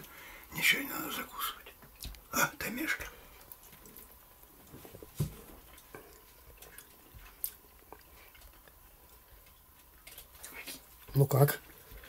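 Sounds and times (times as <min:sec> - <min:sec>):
faint chewing: 0:01.1 - 0:02.3, 0:03.0 - 0:12.0.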